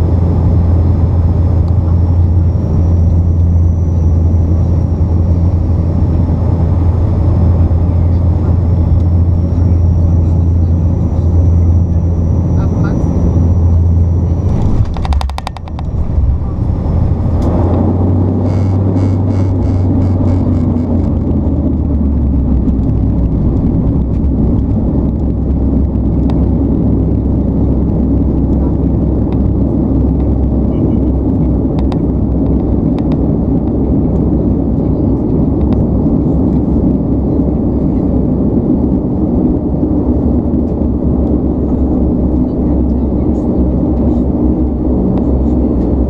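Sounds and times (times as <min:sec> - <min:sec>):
turboprop engines droning: 0:00.0 - 0:46.0.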